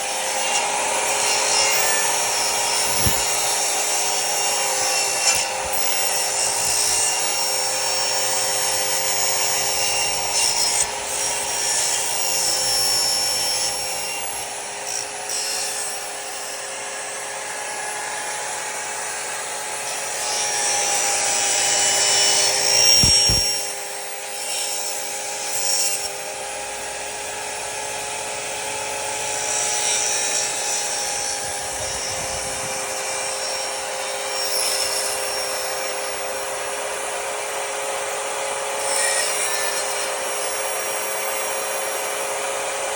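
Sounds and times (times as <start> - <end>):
power tool cutting wood: 0.0 - 42.9.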